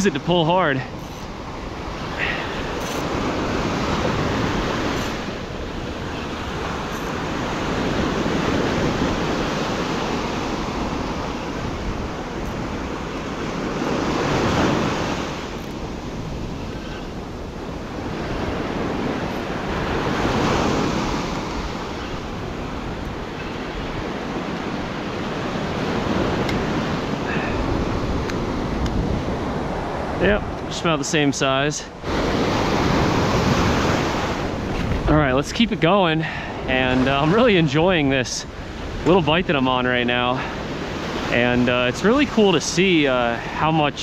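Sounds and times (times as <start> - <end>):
ocean surf breaking on beach: 0.0 - 44.0.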